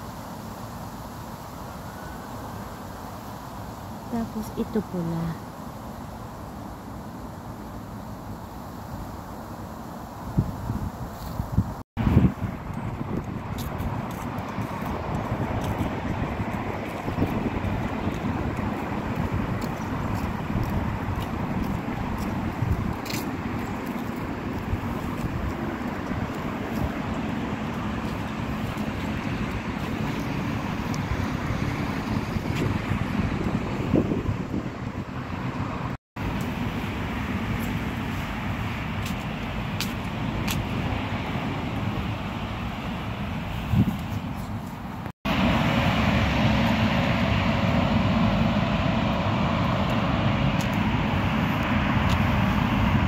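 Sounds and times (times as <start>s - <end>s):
traffic rumble: 0.0s - 53.0s
wind buffeting microphone: 10.2s - 53.0s.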